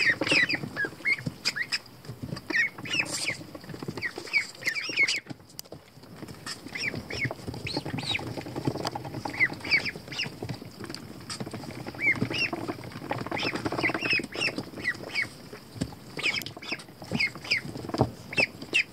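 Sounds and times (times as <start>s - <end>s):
ducklings peeping: 0.0s - 18.9s.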